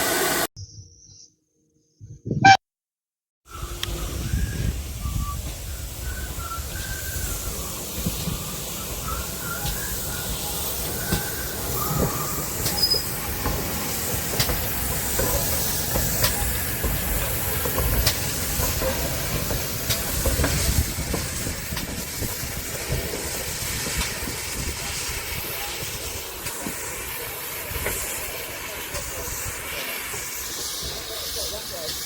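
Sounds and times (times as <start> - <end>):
steam locomotive hissing: 0.0 - 0.5, 3.5 - 32.0.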